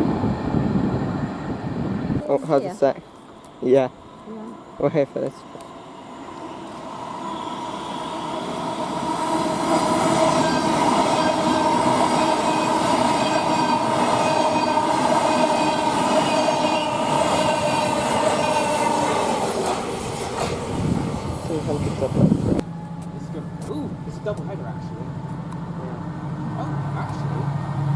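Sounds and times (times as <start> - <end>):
freight train rumble: 0.0 - 27.9
locomotive whining tone: 0.0 - 27.9.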